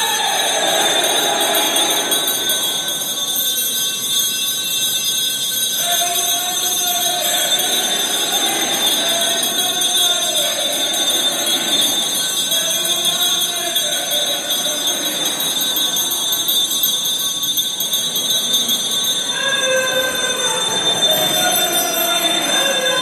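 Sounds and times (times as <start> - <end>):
crowd crying out in church: 0.0 - 23.0
jingling bells: 0.0 - 23.0.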